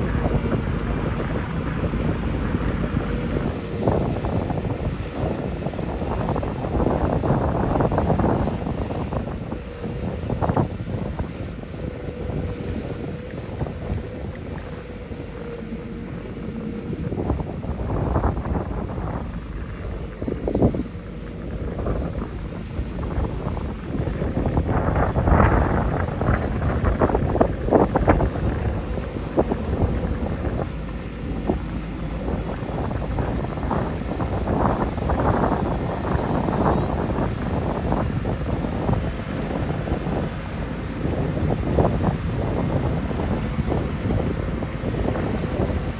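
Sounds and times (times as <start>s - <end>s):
heavy diesel machinery running: 0.0s - 45.9s
steady machine whine: 0.0s - 45.9s
wind buffeting microphone: 0.0s - 45.9s.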